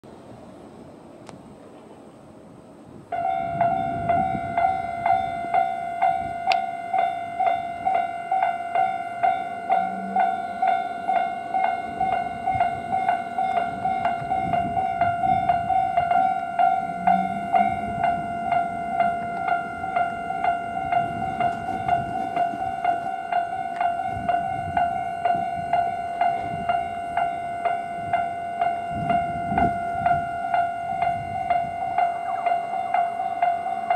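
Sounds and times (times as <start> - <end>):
level crossing warning bell: 3.1 - 33.9.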